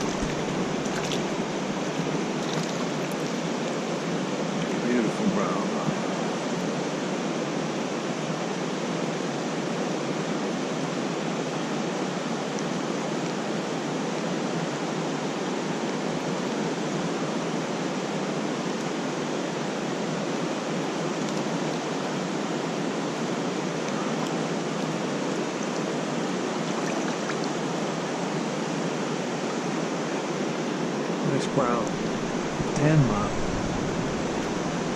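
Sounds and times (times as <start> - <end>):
creek water rushing: 0.0 - 34.9.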